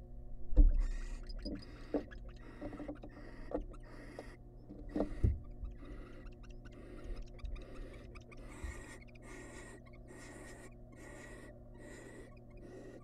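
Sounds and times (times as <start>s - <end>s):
low electrical hum: 0.0s - 13.0s
owls hissing: 0.8s - 13.0s.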